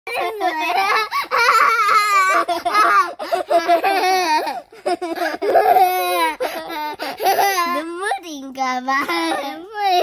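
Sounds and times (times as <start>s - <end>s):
small children laughing: 0.1s - 8.0s, 8.9s - 10.0s.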